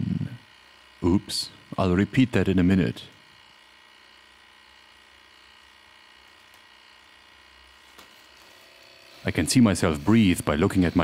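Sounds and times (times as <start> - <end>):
camera cooler humming: 0.0 - 11.0.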